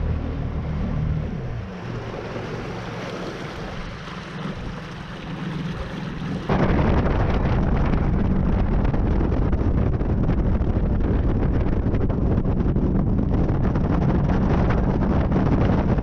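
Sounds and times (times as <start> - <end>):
hull on water: 0.0 - 16.0
outboard motor drone: 0.0 - 16.0
wind buffeting microphone: 0.0 - 16.0.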